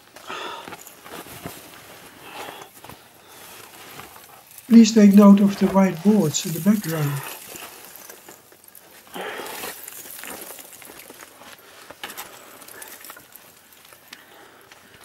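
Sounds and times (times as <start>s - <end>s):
suit rustling against ice and rock: 0.0s - 15.0s.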